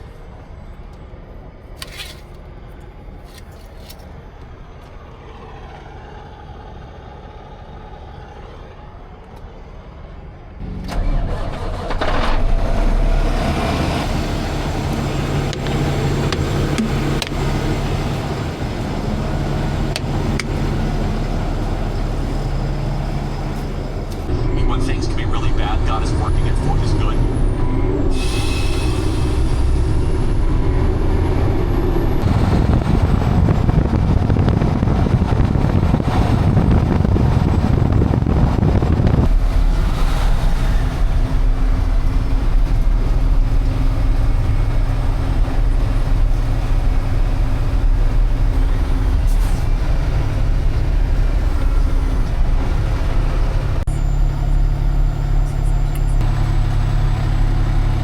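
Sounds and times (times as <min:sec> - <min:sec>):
diesel truck engine drone: 0:00.0 - 0:58.0.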